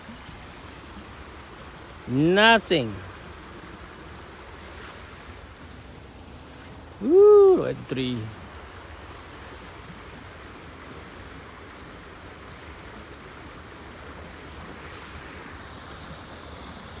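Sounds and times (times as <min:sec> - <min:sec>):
river flowing: 0:00.0 - 0:17.0.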